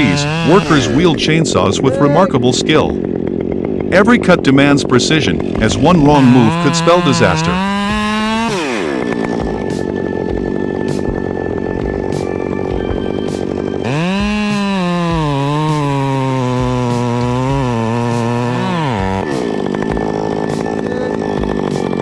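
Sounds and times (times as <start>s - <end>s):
chainsaw running: 0.0s - 22.0s.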